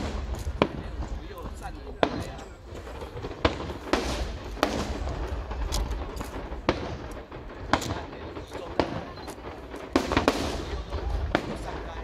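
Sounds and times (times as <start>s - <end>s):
fireworks bangs: 0.0s - 12.0s
low rumble and crackle: 0.0s - 12.0s.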